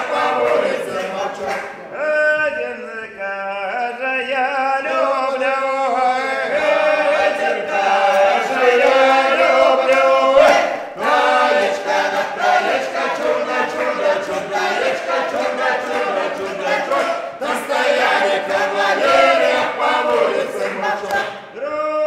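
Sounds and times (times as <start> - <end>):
group singing unaccompanied: 0.0 - 21.6.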